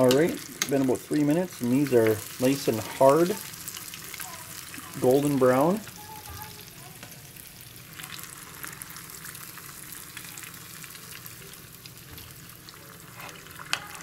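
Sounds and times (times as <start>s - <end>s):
fish frying in hot oil: 0.0s - 14.0s.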